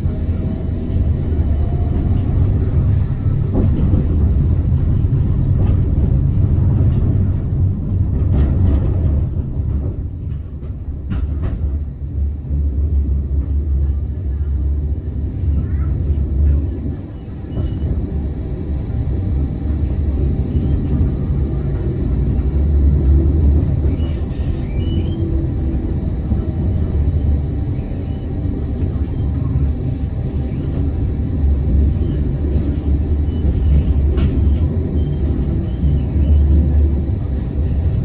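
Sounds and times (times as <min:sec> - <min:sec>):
tram wheels rumbling on rails: 0:00.0 - 0:38.0.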